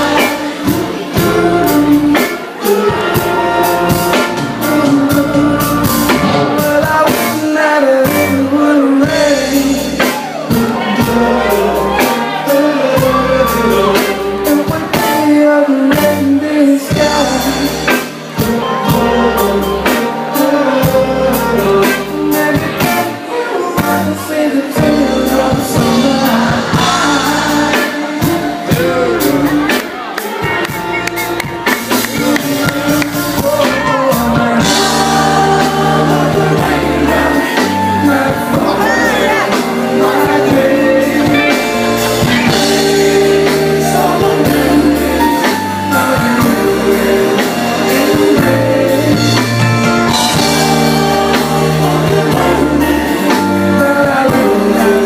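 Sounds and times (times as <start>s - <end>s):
backing vocals: 0.0s - 55.0s
lead singer: 0.0s - 55.0s
live soul band playing: 0.0s - 55.0s.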